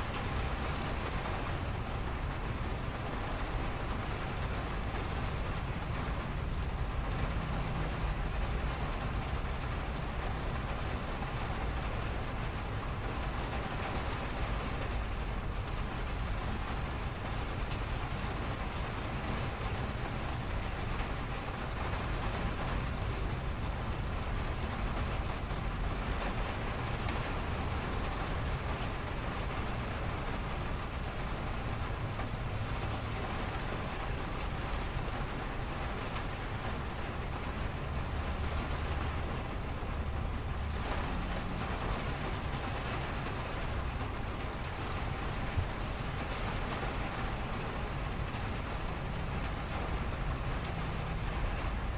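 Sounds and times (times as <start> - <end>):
low rumble of freeway traffic: 0.0 - 51.9
rain on window glass: 0.0 - 51.9.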